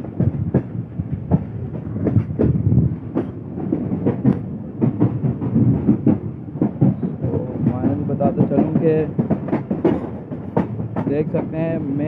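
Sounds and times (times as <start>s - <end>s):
train rumble: 0.0s - 12.0s
wheels clattering over rail joints: 0.0s - 12.0s.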